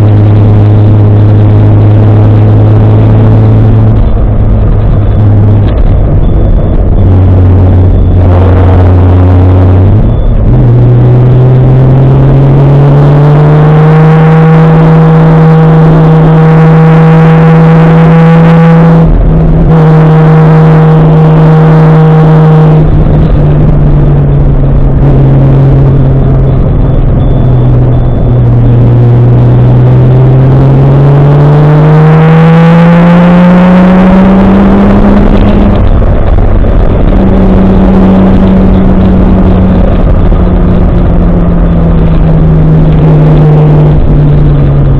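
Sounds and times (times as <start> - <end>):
turbocharged car engine revving: 0.0 - 44.9.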